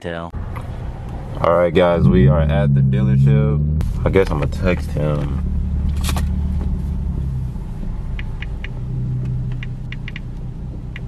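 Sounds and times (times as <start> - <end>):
car engine low drone: 0.3 - 11.0.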